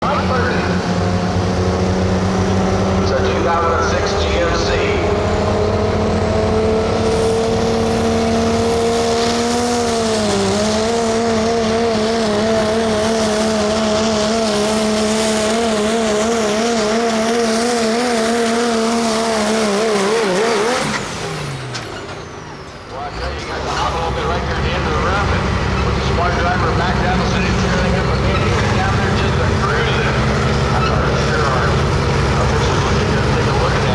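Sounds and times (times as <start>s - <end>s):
diesel truck engine at high revs: 0.0s - 33.9s.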